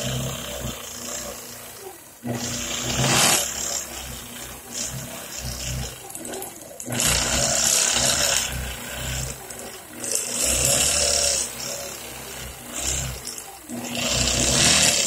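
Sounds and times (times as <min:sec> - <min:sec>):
quilting machine stitching: 0:00.0 - 0:15.0.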